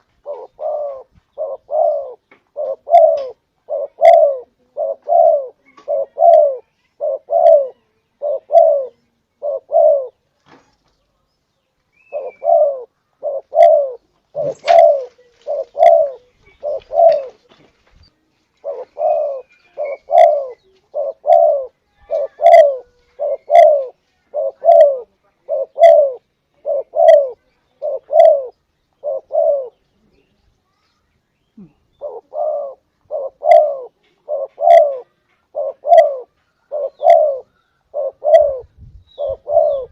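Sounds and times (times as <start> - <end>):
dove cooing: 0.0 - 10.2, 12.0 - 17.7, 18.5 - 30.3, 31.6 - 39.9.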